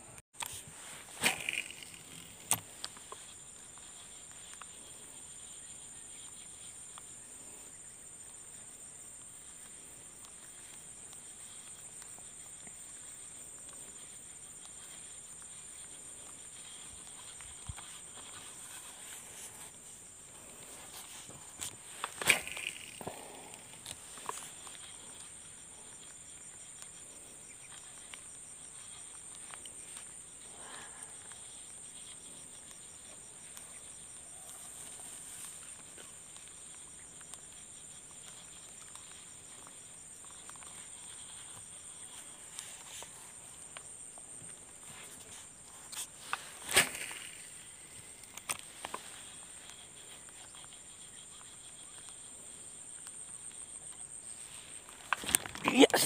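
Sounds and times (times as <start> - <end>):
insect fast ticking: 0.0 - 56.0
high-pitched insect chorus: 0.4 - 56.0.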